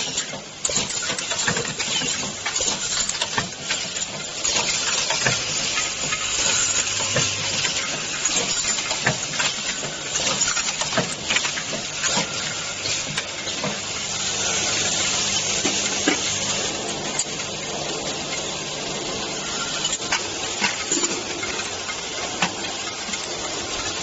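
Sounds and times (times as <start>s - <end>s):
machine hissing: 0.0s - 24.0s.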